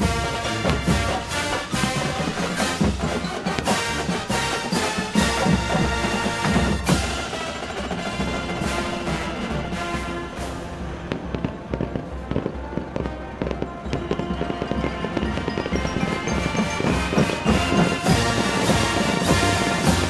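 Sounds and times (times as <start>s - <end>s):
fireworks bangs and crackling: 0.0s - 20.0s
music with steady beat: 0.0s - 20.0s.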